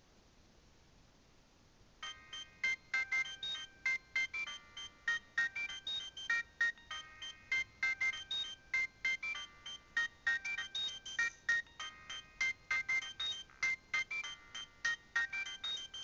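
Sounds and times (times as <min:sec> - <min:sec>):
polyphonic phone ringtone: 0:02.0 - 0:16.0.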